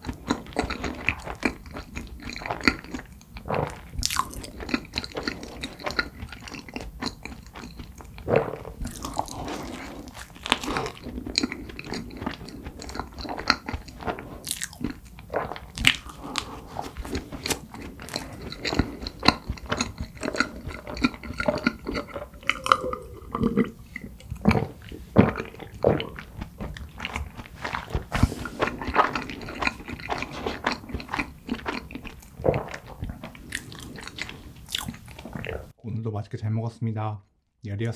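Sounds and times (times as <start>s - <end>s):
person biting and chewing: 0.0s - 35.7s.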